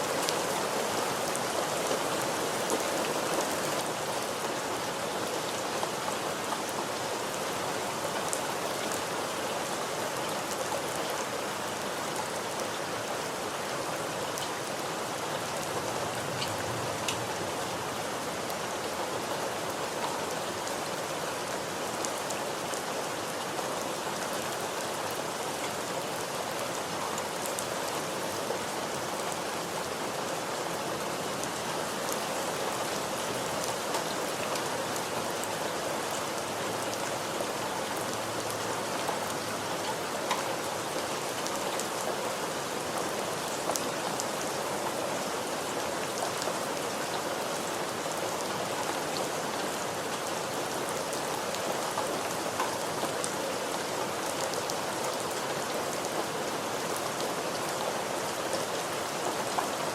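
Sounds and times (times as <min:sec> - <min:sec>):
rain falling: 0:00.0 - 0:59.9
raindrops pattering on surfaces: 0:00.1 - 0:59.9.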